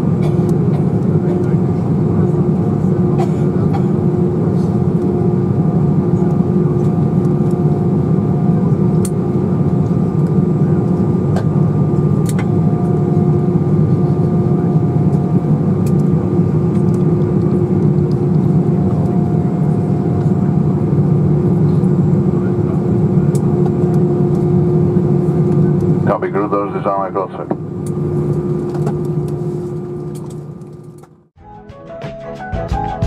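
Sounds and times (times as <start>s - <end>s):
jet engines idling rumble: 0.0s - 31.3s.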